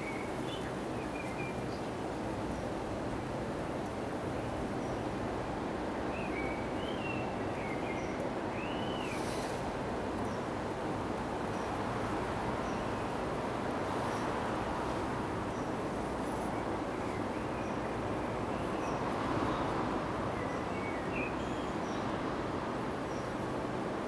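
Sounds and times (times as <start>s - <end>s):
outdoor background rush: 0.0s - 24.0s.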